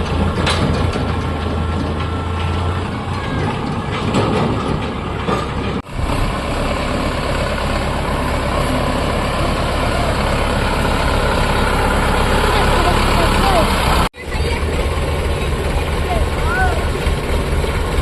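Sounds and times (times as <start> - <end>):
tractor diesel engine and machinery: 0.0 - 18.0.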